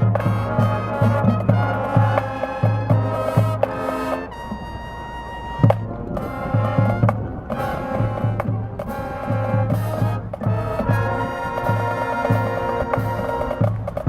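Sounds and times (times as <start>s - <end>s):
marching band brass chords: 0.0s - 14.0s.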